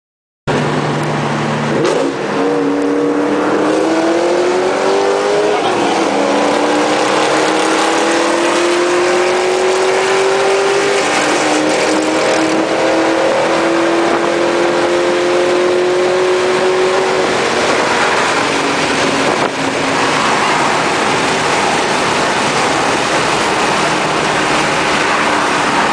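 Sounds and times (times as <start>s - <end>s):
car engine accelerating: 0.5s - 25.9s
road and wind noise: 0.5s - 25.9s.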